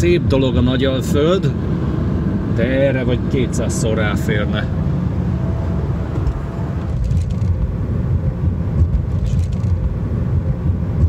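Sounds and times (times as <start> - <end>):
tyre road noise rumble: 0.0 - 11.0.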